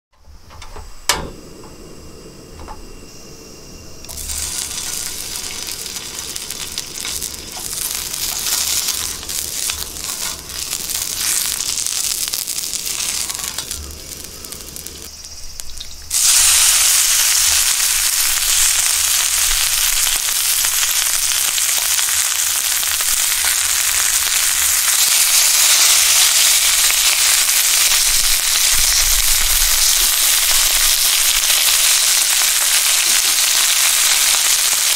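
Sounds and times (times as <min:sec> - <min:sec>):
meat sizzling loudly: 0:03.6 - 0:34.9
fat sizzling in a frying pan: 0:04.0 - 0:34.9.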